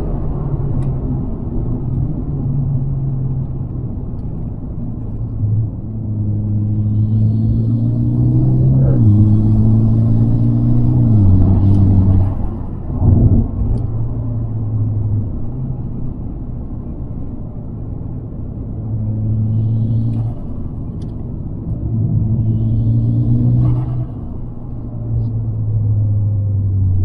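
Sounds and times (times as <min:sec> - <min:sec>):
car engine driving uphill: 0:00.0 - 0:27.0.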